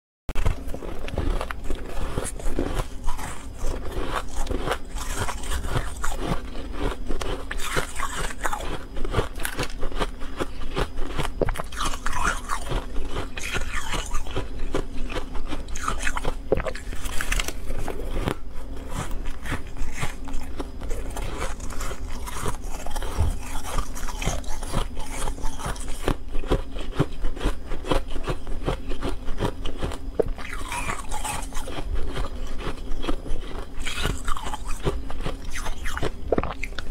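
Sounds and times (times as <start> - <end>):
frost being chewed: 0.3 - 36.9.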